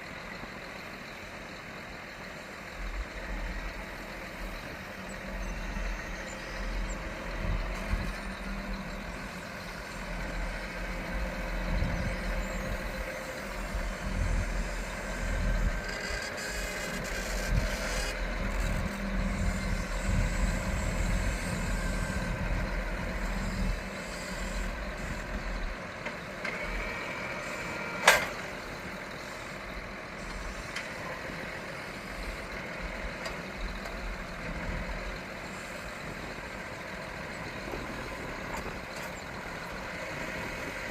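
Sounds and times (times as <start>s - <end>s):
heavy vehicle engine rumbling: 0.0s - 40.9s.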